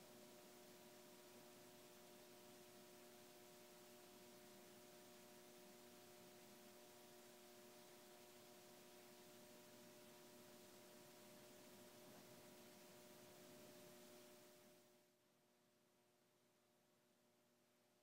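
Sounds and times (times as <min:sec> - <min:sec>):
faint hiss: 0:00.0 - 0:15.2
faint electrical hum: 0:00.0 - 0:18.0.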